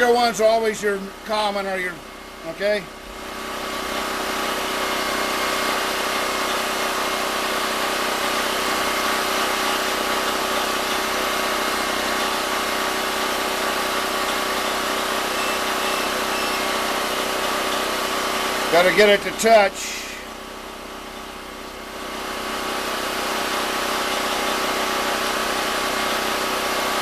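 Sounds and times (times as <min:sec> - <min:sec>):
generator engine droning: 0:00.0 - 0:27.0.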